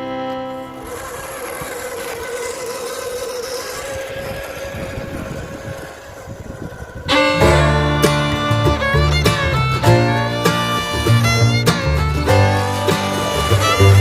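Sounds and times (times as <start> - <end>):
electric motor whine: 0.0 - 14.0
rough noisy rumble: 0.0 - 14.0.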